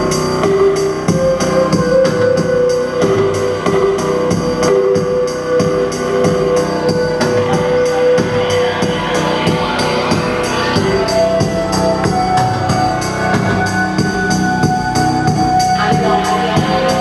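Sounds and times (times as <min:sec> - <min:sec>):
electronic music with drum machine: 0:00.0 - 0:17.0.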